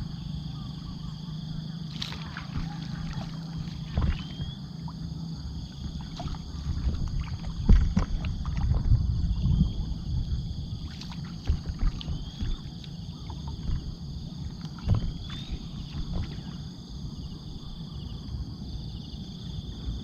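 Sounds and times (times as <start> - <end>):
water lapping around a boat: 0.0 - 20.0.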